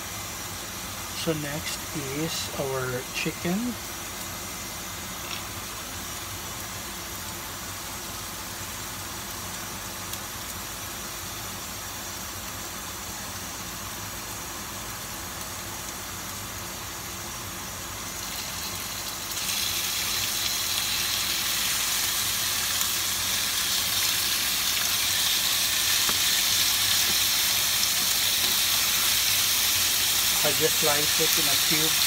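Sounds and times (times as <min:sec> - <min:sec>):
chicken sizzling in hot oil: 0:00.0 - 0:32.0
pan humming and hissing: 0:00.0 - 0:32.0.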